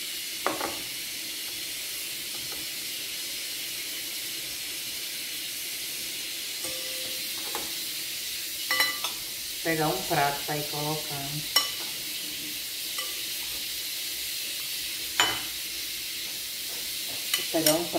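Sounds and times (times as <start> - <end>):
steady high hiss: 0.0 - 17.9.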